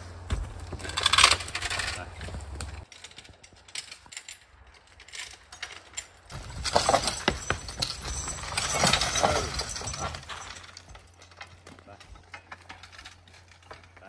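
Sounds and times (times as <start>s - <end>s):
harness chains clinking: 0.7s - 14.0s.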